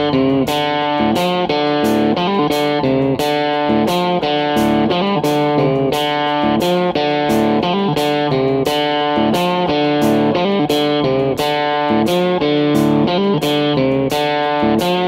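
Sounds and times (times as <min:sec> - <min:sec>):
guitar music with drum beat: 0:00.0 - 0:15.0.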